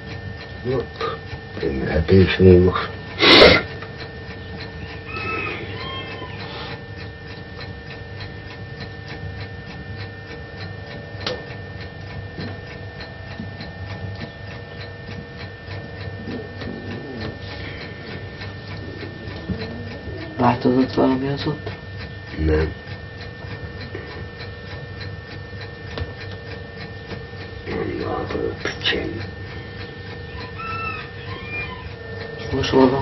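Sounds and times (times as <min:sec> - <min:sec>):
faint hum: 0:00.0 - 0:33.0
steady ticking: 0:00.0 - 0:33.0.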